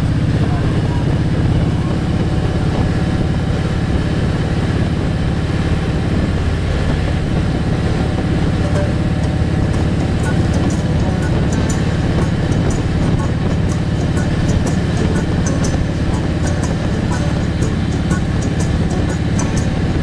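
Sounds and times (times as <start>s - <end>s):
vehicle engine rumble: 0.0s - 20.0s
wind and road noise: 0.0s - 20.0s.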